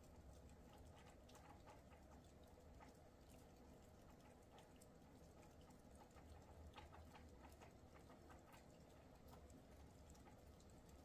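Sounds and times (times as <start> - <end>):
faint irregular ticks: 0.0 - 11.0.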